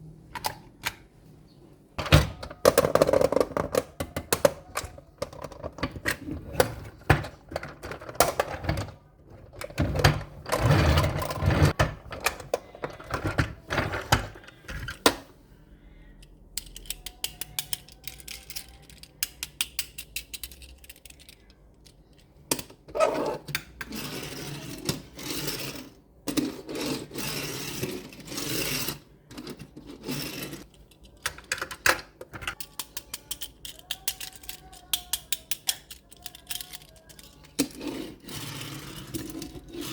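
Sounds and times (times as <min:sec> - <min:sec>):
small metal and plastic parts rattling: 0:02.0 - 0:15.1, 0:16.1 - 0:39.9.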